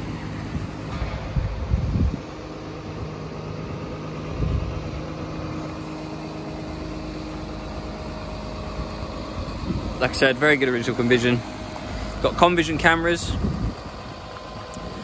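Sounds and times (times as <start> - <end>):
diesel engine idling: 0.0 - 15.0
low bumps: 0.0 - 15.0.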